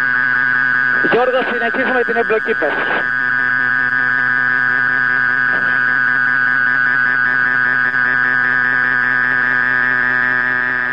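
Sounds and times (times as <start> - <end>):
high-pitched electronic tone: 0.0 - 10.9.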